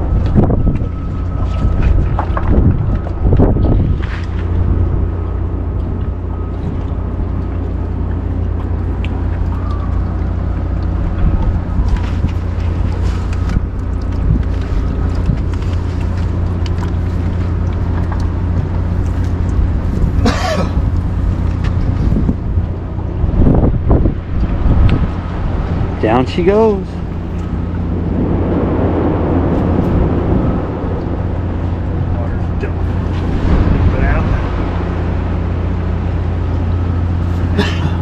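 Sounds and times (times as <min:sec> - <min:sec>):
low mechanical drone: 0:00.0 - 0:38.0
wind buffeting microphone: 0:00.0 - 0:38.0.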